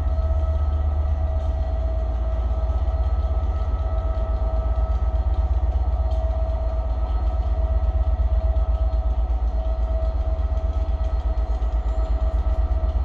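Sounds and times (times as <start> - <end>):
constant whine: 0.0 - 13.0
train low rumble: 0.0 - 13.0.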